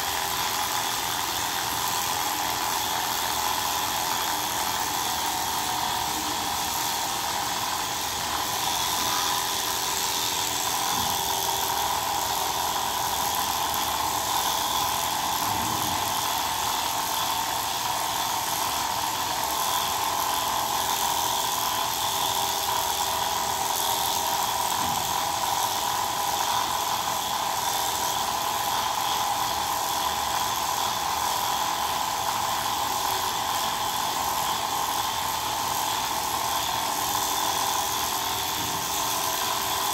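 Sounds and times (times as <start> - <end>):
electric clippers buzzing: 0.0 - 39.9.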